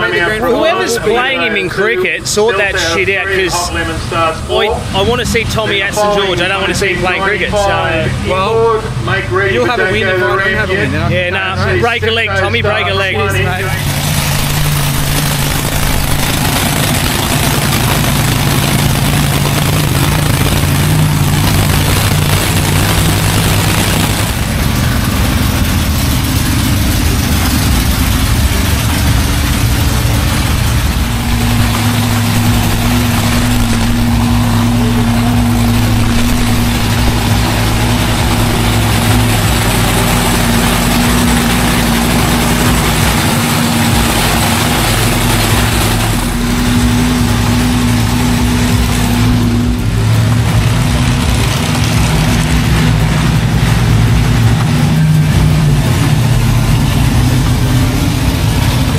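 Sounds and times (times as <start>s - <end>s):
engine idling: 0.0s - 58.9s
low engine note: 0.0s - 58.9s.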